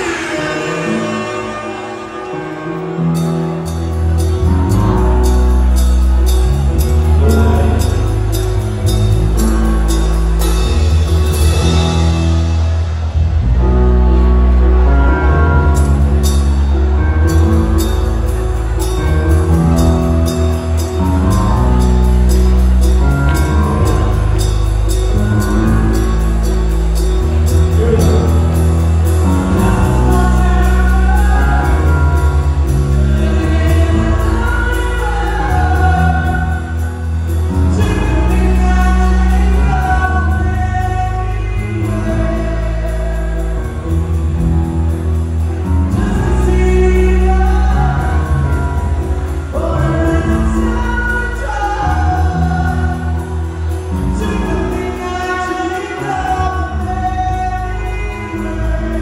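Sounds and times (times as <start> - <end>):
bass guitar: 0.0 - 59.0
keyboard: 0.0 - 59.0
person singing: 0.0 - 59.0.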